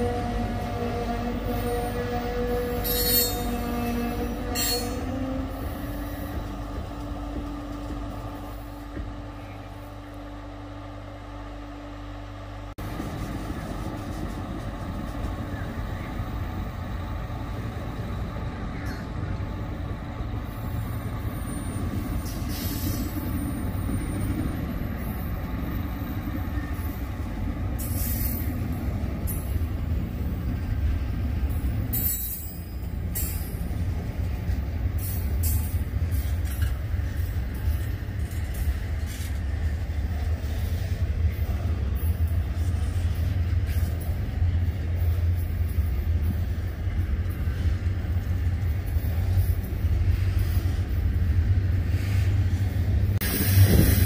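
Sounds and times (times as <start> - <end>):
diesel locomotive rumble: 0.0 - 54.0
freight train rolling by: 0.0 - 54.0.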